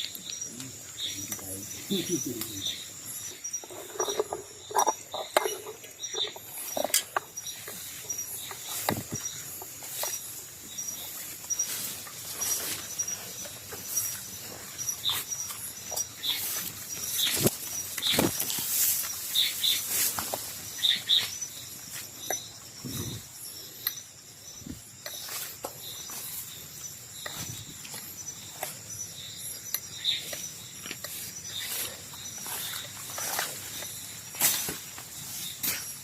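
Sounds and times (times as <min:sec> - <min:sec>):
crackling and rustling in leaves: 0:00.0 - 0:36.0
night insects chirring: 0:00.0 - 0:36.0.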